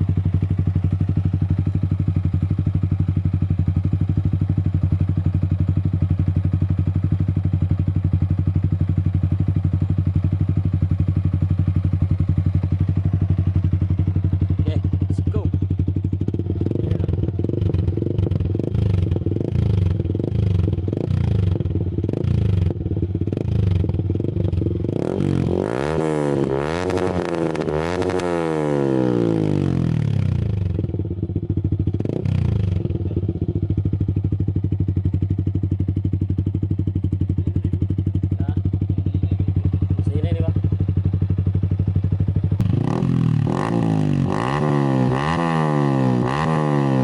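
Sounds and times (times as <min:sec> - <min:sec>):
motorcycle engine idling and revving: 0:00.0 - 0:47.0.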